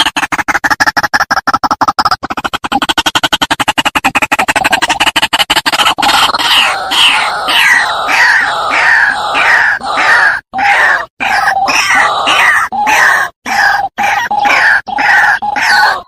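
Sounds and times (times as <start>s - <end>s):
bird harsh repeated calls: 2.0s - 16.0s.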